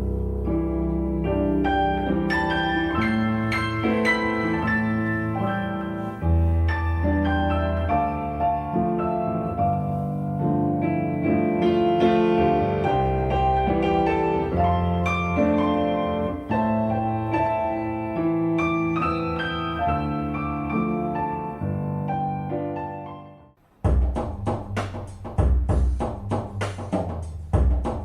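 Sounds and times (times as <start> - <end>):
piano music: 0.0 - 23.6.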